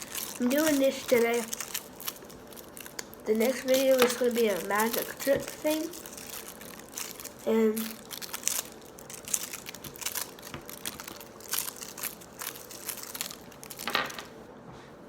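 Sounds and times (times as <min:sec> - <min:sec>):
candy cane crunching between teeth: 0:00.0 - 0:14.3.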